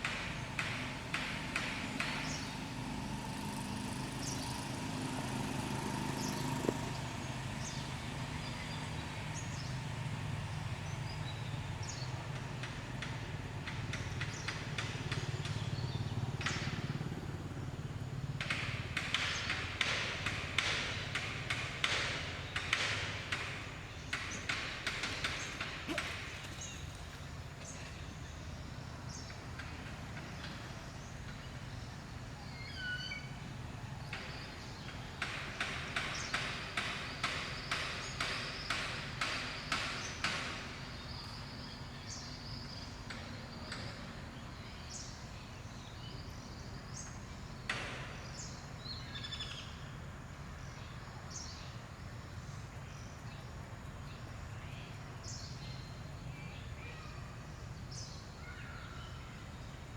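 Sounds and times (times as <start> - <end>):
birds chirping: 0.0 - 17.0, 22.4 - 59.9.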